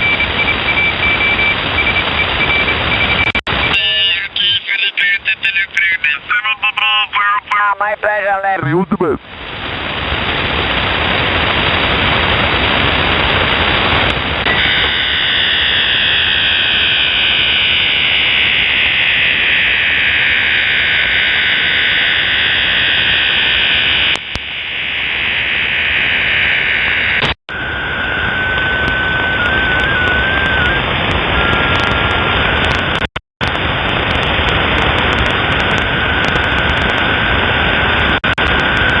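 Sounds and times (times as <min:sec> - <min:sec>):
shortwave radio static: 0:00.0 - 0:39.0.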